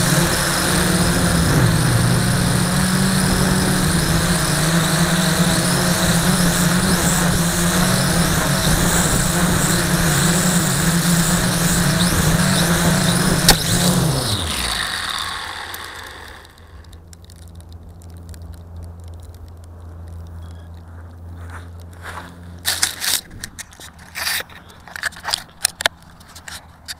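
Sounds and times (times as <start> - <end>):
drone motors buzzing: 0.0 - 25.7.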